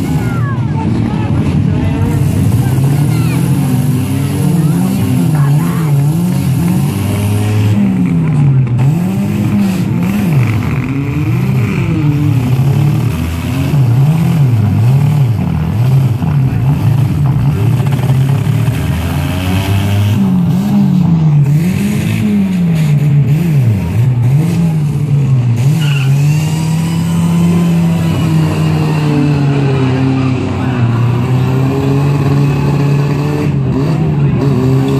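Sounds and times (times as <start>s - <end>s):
race car engines revving: 0.0s - 34.9s.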